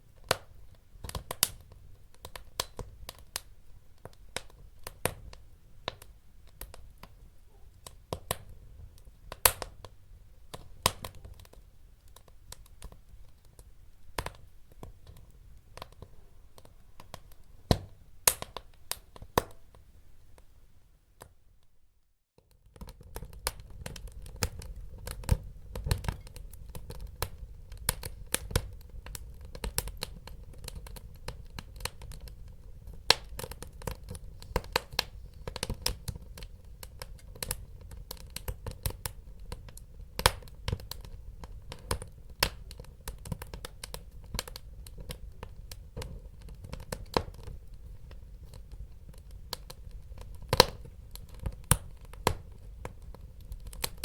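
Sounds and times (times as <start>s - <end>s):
wood fire crackling: 0.0s - 20.6s, 22.4s - 54.0s.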